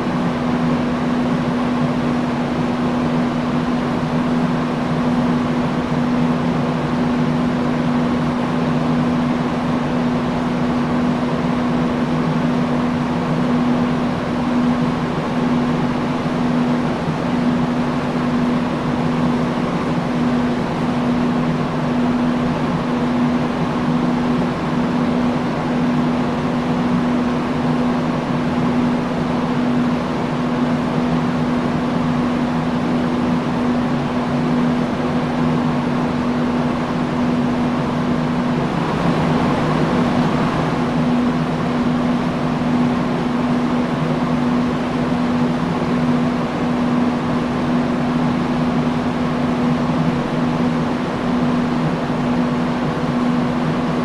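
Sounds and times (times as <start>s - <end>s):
fan motor hum: 0.0s - 54.0s
industrial fan air rush: 0.0s - 54.0s.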